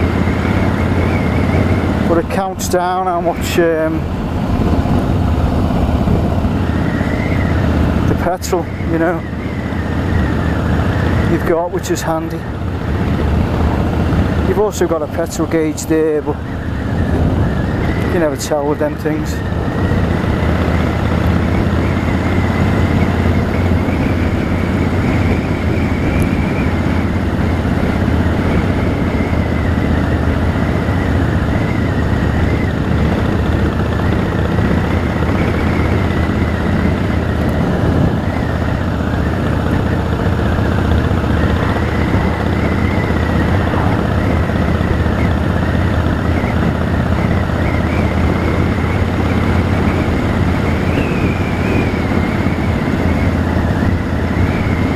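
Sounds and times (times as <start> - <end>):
motorcycle engine running: 0.0 - 54.9
road noise: 0.0 - 54.9.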